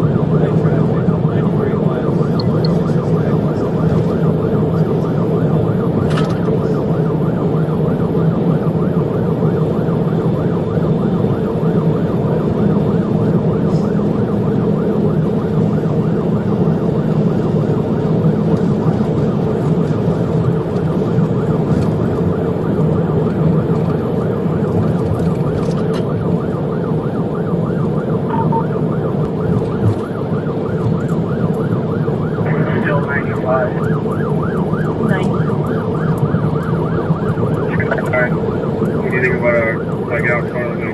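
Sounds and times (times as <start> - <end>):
engine and road noise: 0.0 - 40.9
police siren yelping: 0.0 - 40.9.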